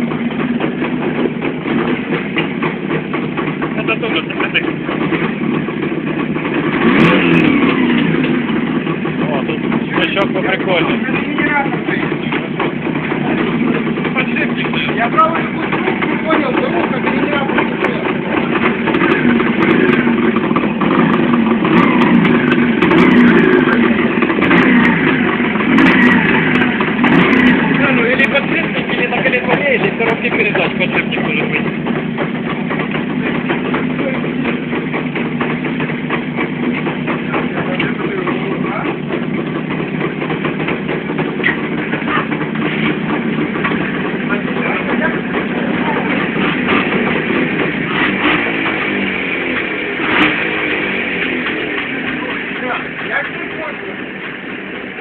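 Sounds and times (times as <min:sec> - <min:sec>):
bearing hum: 0:00.0 - 0:55.0
two-stroke motorcycle running: 0:00.0 - 0:55.0.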